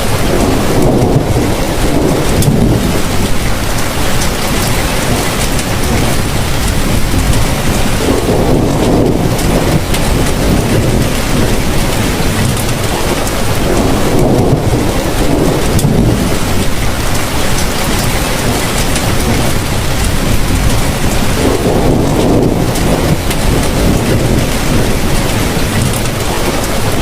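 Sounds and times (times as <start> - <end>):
heavy rain falling: 0.0 - 27.0
low rumbling: 0.0 - 27.0.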